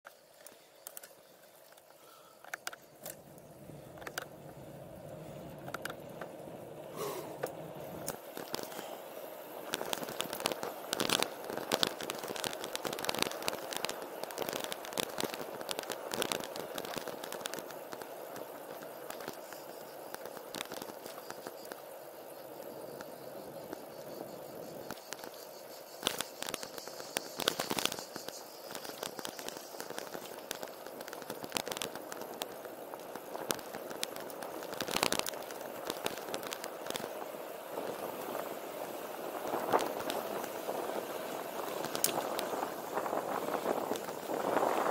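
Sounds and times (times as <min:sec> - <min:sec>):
bicycle tyre noise on asphalt: 0:00.1 - 0:44.9
bike clicking and rattling: 0:00.1 - 0:44.9.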